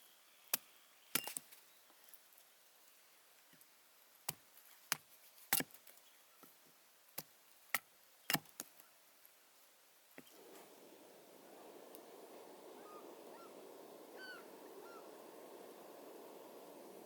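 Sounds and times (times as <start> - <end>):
soft steady noise: 0.0 - 17.0.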